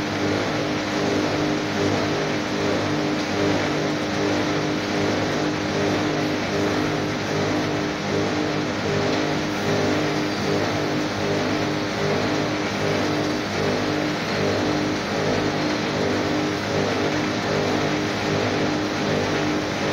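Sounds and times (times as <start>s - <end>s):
wire shredding machine running: 0.0s - 19.9s.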